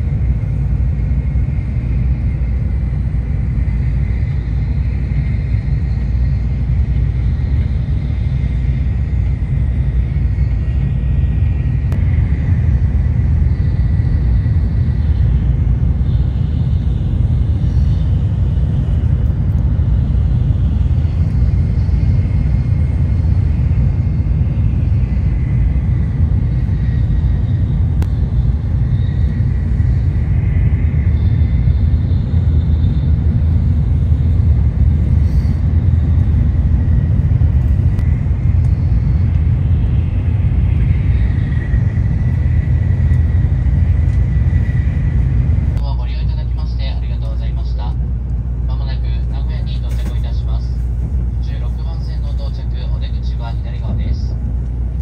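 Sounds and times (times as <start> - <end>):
faint high whine: 0.0 - 55.0
train cabin low rumble: 0.0 - 55.0.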